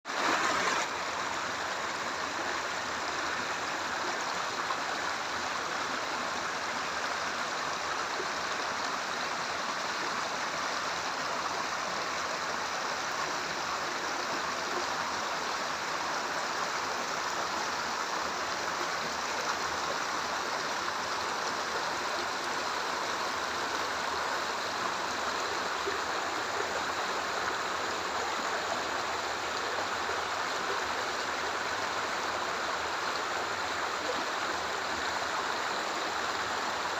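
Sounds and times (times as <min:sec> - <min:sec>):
mountain stream rushing: 0:00.1 - 0:36.9.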